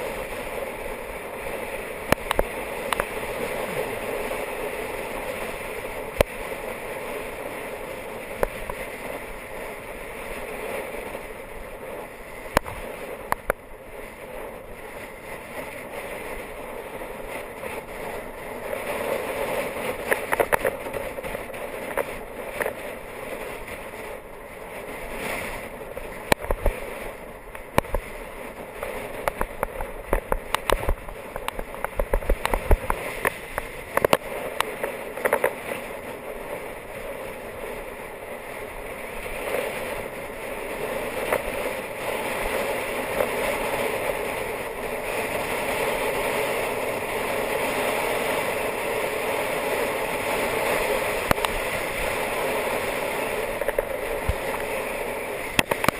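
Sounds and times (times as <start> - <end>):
bike tyre noise on tarmac: 0.0 - 55.9
wind rushing over camera: 0.0 - 55.9.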